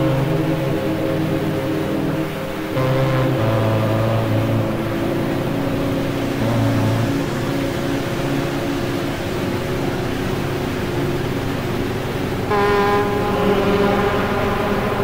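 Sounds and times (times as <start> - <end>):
low drone music: 0.0 - 15.0.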